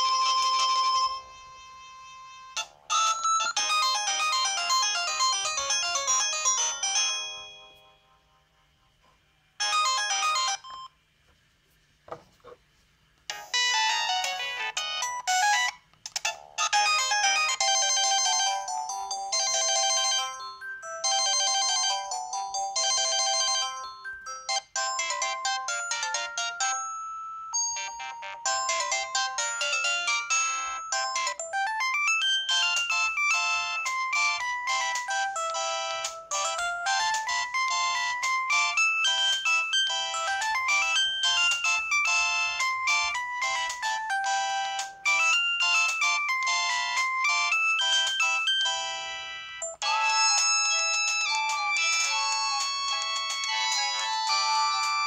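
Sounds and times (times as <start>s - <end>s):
polyphonic phone ringtones: 0.0s - 8.0s, 9.6s - 11.0s, 13.3s - 55.0s.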